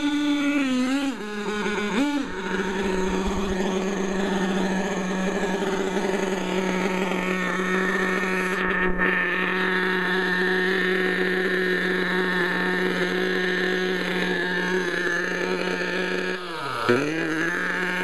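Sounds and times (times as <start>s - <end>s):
model truck nitro engine idling: 0.0s - 18.0s.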